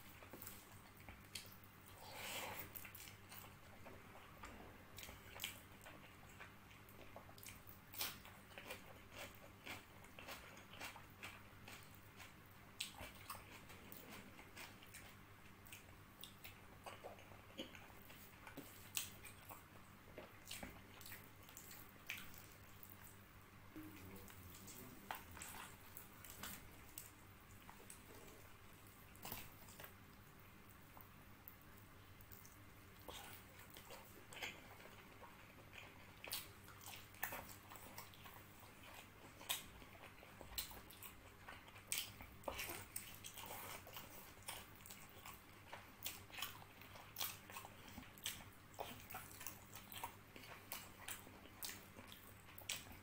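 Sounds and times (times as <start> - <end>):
person chewing with wet smacks: 0.0 - 53.0.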